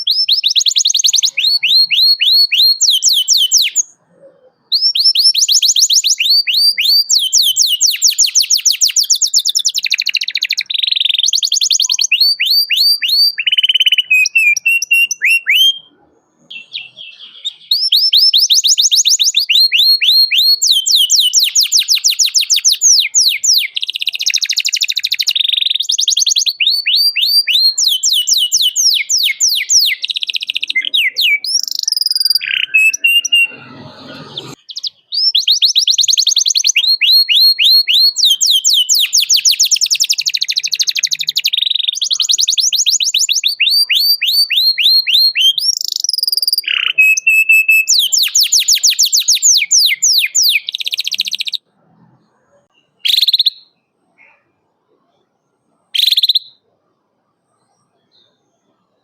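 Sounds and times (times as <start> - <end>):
canary singing trills: 0.0 - 56.7.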